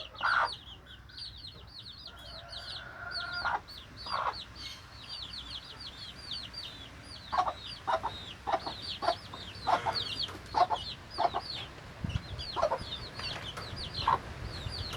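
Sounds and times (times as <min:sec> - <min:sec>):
chickens clucking: 0:00.0 - 0:14.9.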